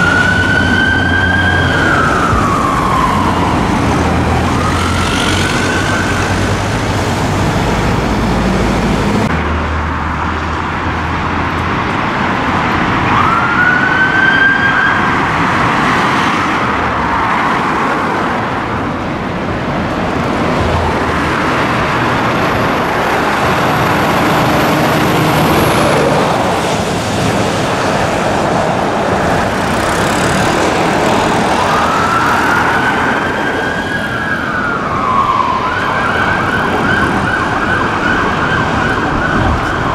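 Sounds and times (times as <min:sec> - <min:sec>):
fire engine siren: 0:00.0 - 0:09.4, 0:11.3 - 0:39.9
road traffic and engine noise: 0:00.0 - 0:39.9.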